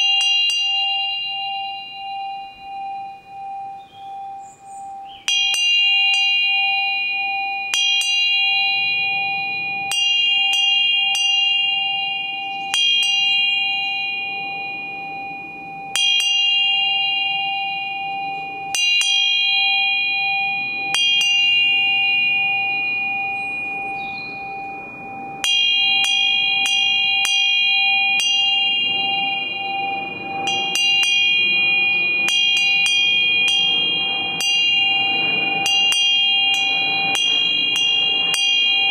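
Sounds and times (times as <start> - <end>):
low steady ringing tone: 0.0 - 38.9
small high-pitched bell strikes: 0.0 - 38.9.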